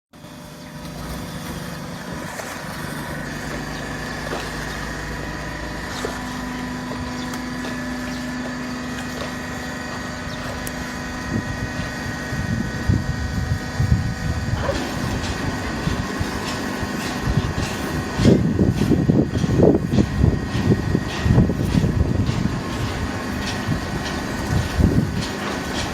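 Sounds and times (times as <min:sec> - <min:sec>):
baler machine hum: 0:00.1 - 0:25.9
low rumbling and knocks: 0:03.2 - 0:25.9.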